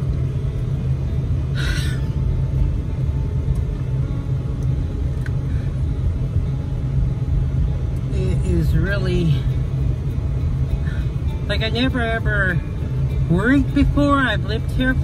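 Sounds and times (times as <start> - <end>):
truck engine and tyres rumbling: 0.0 - 15.0.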